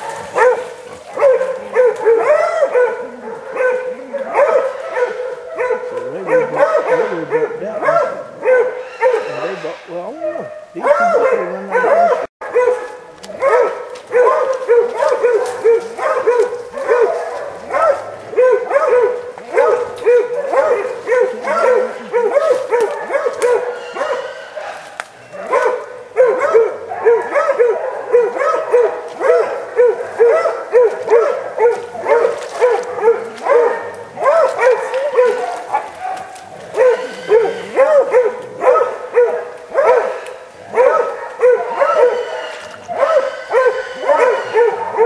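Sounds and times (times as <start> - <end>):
dog barking: 0.0 - 45.0.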